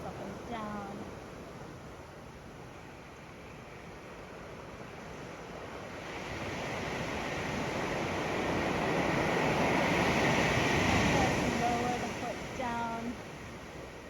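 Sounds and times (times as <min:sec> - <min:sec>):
ocean surf on sandy beach: 0:00.0 - 0:14.0.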